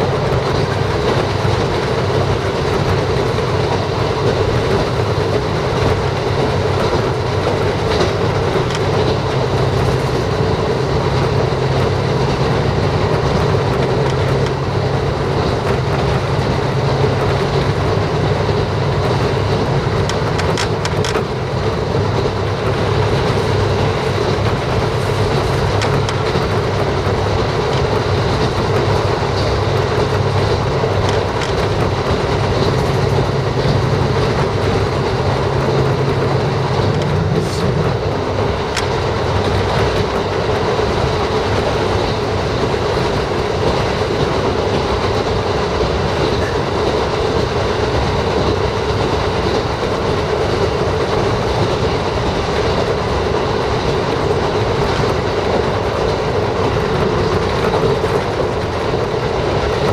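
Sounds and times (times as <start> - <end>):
low engine drone: 0.0 - 59.9
wheel clicks on rails: 0.0 - 59.9
wheel rolling noise: 0.0 - 59.9.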